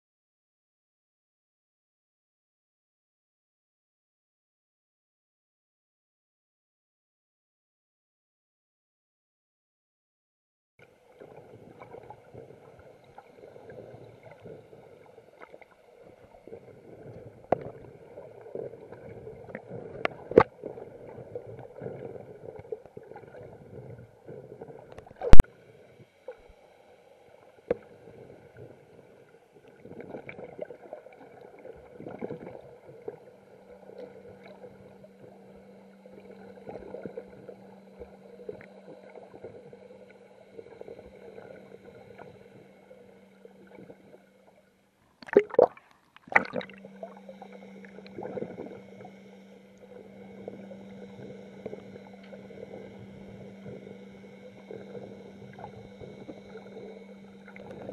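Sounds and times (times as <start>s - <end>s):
faint steady whine: 10.8s - 57.9s
low steady hum: 10.8s - 57.9s
muffled underwater water movement: 10.8s - 57.9s.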